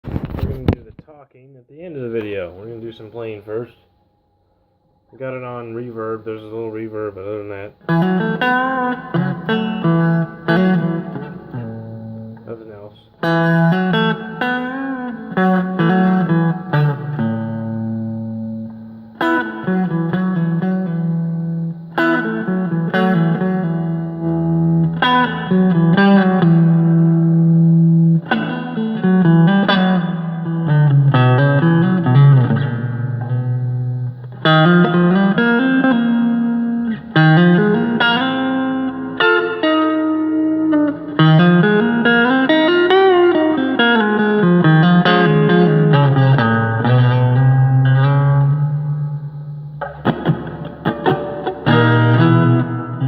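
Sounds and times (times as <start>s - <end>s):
clean electric guitar: 0.0s - 53.0s.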